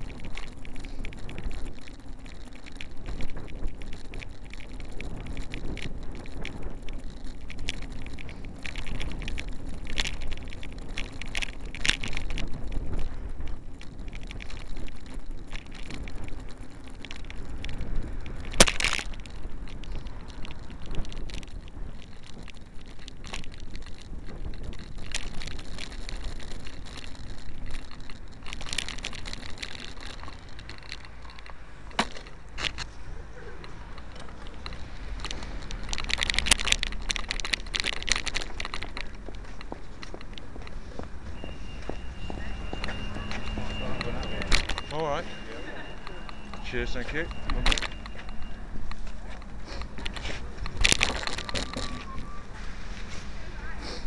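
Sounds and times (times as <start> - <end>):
bicycle clicks and rattles: 0.0 - 54.0
road noise: 0.0 - 54.0
wind rumble: 0.0 - 54.0.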